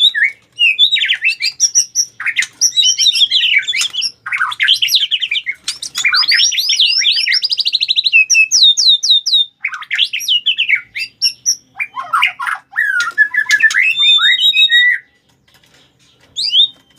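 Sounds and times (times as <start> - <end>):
bird singing whistled trills: 0.0 - 15.2, 16.4 - 16.9.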